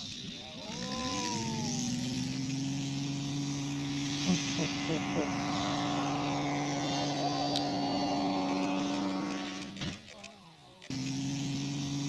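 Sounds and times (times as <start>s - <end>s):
model airplane engine droning: 0.0s - 12.0s.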